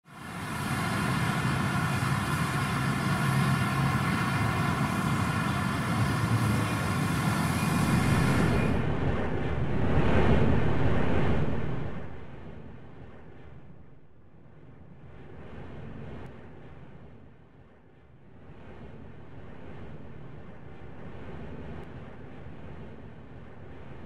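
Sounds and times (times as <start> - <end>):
jet airliner engines overhead: 0.1 - 24.0.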